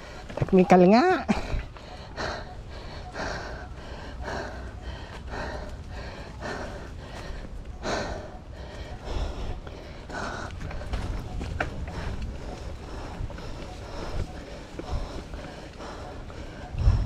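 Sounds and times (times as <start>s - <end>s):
person breathing hard: 1.3s - 11.2s, 11.8s - 17.0s
low rumble: 1.4s - 17.0s.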